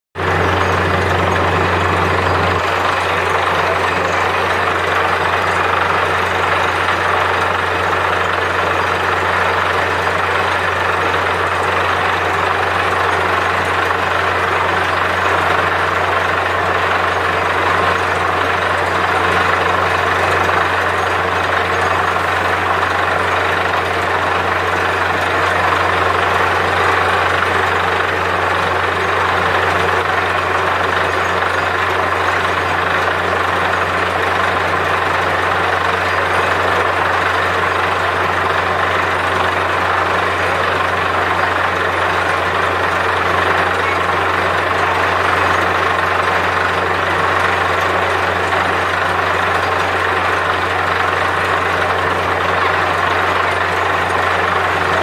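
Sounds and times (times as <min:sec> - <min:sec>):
low engine hum: 0:00.2 - 0:55.0.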